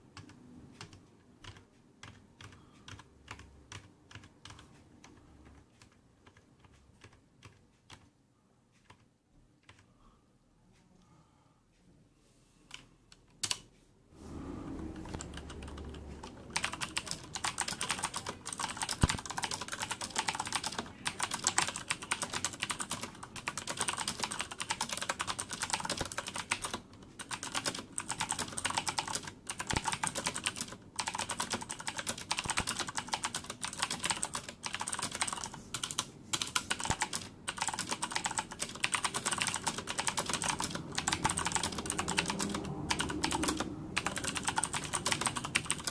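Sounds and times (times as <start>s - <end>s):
typing on mechanical keyboard: 0.2s - 8.1s, 8.8s - 9.9s, 14.7s - 45.9s.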